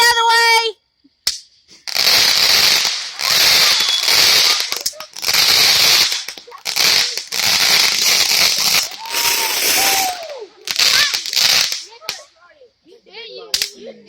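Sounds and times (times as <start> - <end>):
fireworks crackling: 1.3 - 13.9.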